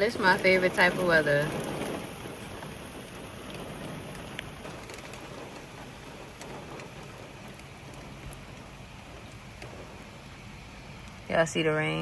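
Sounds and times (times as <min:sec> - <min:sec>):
raindrops ticking: 0:00.0 - 0:12.0
steady rain: 0:00.0 - 0:12.0.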